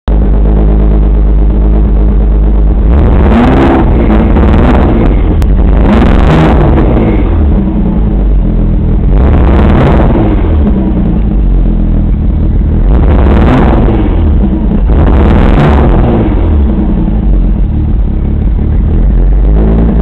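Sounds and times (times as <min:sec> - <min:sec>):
car engine idling roughly: 0:00.1 - 0:20.0.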